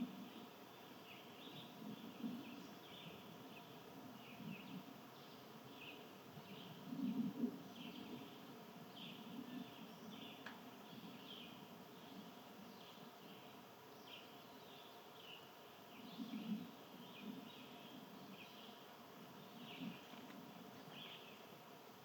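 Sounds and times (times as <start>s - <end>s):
small birds chirping faintly: 0.0s - 22.0s.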